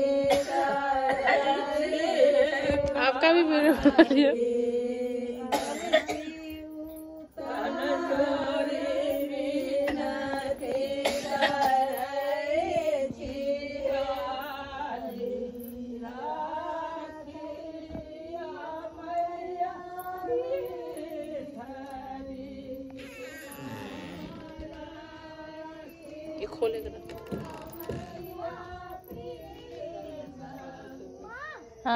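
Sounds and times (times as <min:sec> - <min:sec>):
woman singing: 0:00.0 - 0:31.2.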